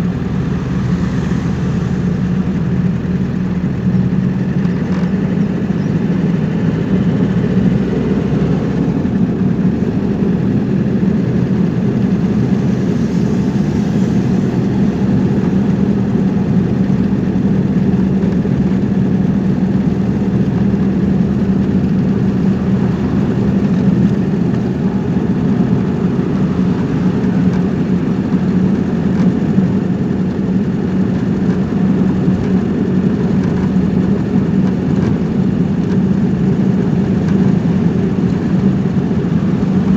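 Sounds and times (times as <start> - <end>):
car engine: 0.0 - 39.9.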